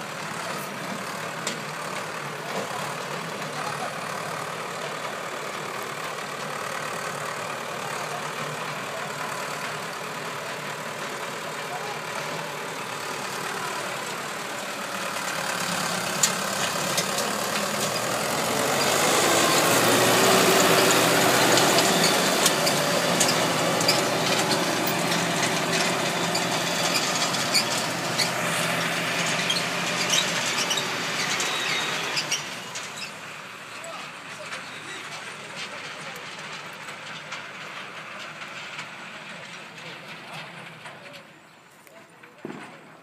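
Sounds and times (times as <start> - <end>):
tiller blades churning soil: 0.0 - 36.8
tractor engine under load: 0.0 - 43.0.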